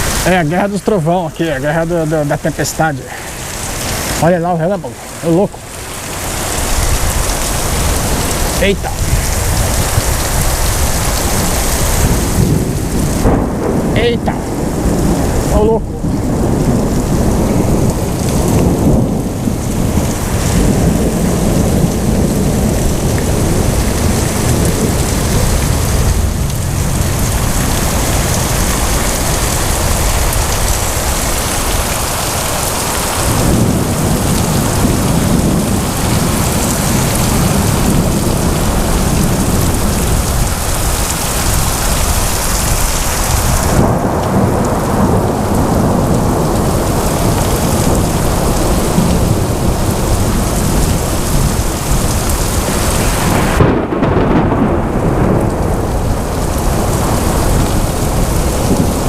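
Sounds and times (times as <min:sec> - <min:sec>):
heavy rain downpour: 0:00.0 - 0:59.0
thunder rumbling: 0:00.0 - 0:59.0.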